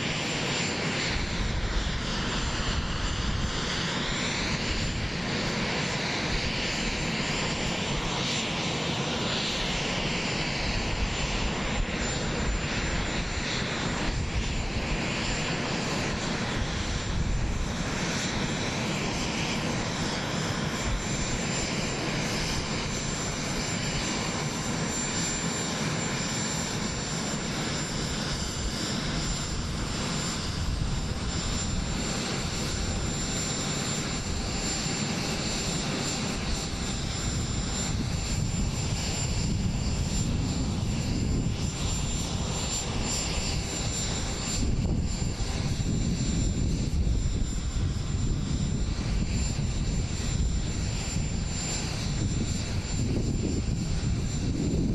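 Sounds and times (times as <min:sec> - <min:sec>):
aircraft turbine engine whine: 0:00.0 - 0:54.9.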